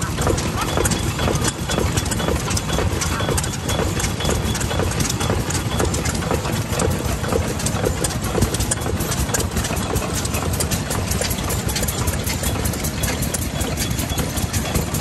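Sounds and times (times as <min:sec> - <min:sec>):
stationary engine idling: 0:00.0 - 0:15.0.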